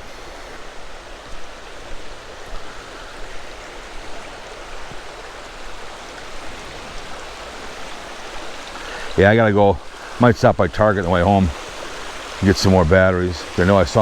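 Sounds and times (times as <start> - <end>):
creek water running: 0.0 - 14.0.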